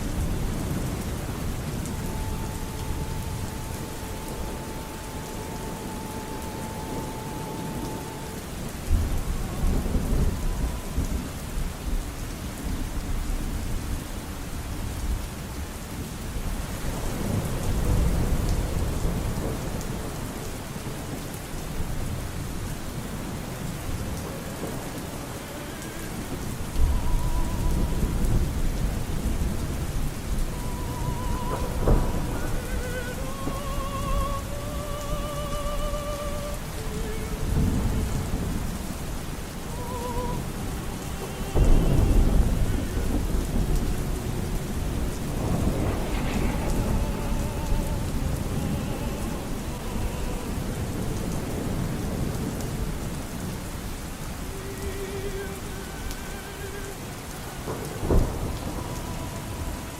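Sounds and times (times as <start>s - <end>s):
operatic singing voice: 0.0s - 14.0s, 15.2s - 59.9s
thunder rolling: 0.0s - 15.3s, 16.2s - 59.9s
steady rain: 0.0s - 59.9s.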